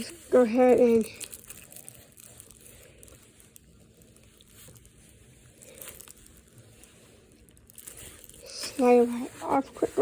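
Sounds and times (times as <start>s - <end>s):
plastic wrap crinkling and tearing: 0.0s - 10.0s
soft handling noises: 0.0s - 10.0s.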